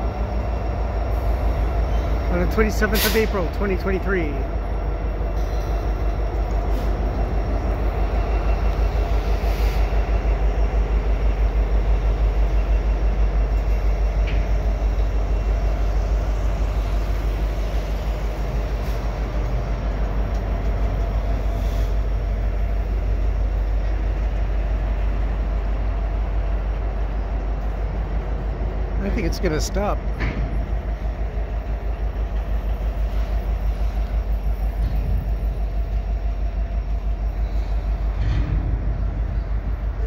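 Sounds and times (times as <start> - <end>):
diesel locomotive engines throbbing: 0.0 - 40.0
freight cars rolling slowly: 0.0 - 40.0.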